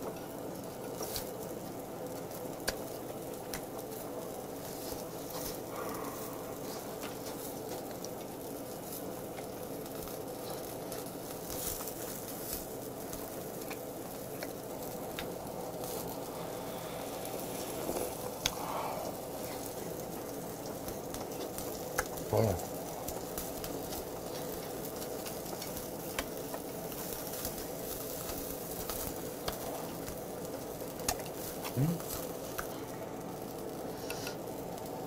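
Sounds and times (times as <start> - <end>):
meat sizzling on a grill: 0.0 - 35.0
small pops and crackles: 0.0 - 35.0.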